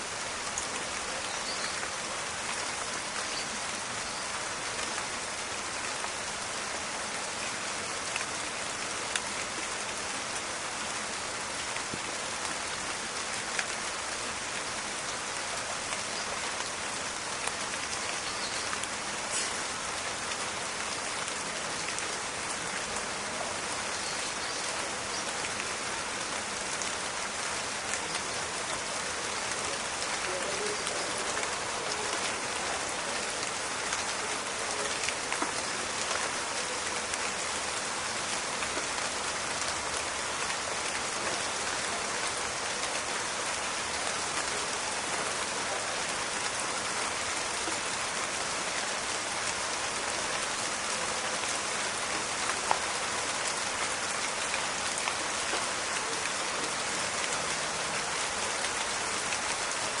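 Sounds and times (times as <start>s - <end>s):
rain pattering in forest: 0.0s - 60.0s.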